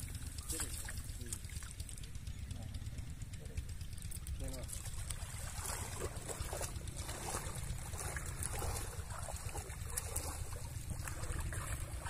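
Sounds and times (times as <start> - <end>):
faint moving water: 0.0 - 12.0.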